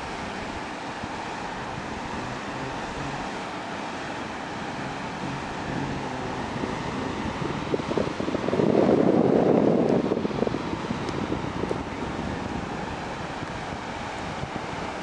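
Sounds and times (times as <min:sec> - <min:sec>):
wind buffeting microphone: 0:00.0 - 0:03.5, 0:04.6 - 0:15.0.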